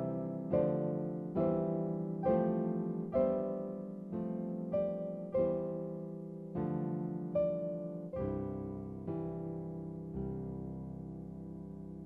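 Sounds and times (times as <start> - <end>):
slow gentle piano: 0.0 - 12.0.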